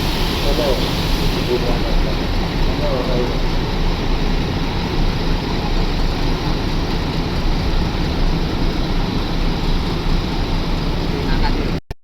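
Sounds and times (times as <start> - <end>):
diesel bus engine idling: 0.0 - 11.8.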